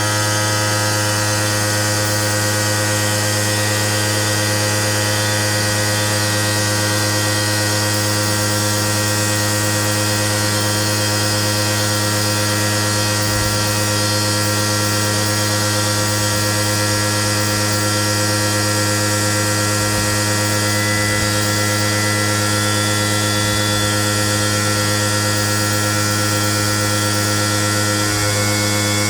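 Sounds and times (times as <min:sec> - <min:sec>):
loud electrical hum: 0:00.0 - 0:29.0.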